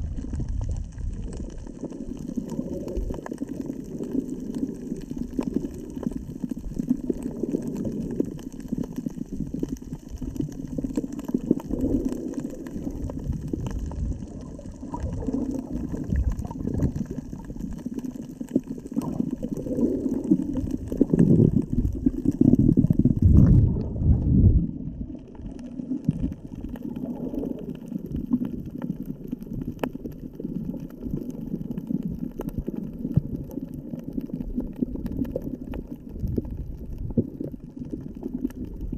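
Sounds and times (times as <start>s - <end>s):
muffled water churning underwater: 0.0s - 38.9s.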